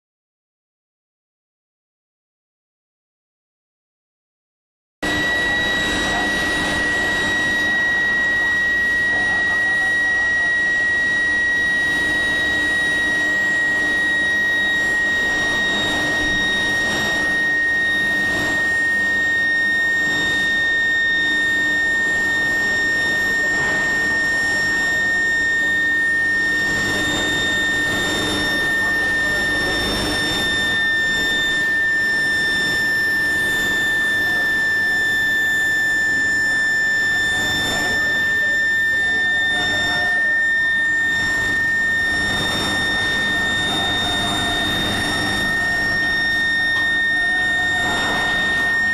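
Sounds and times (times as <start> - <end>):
high-pitched furnace whine: 5.0 - 48.9
noisy background: 5.0 - 48.9.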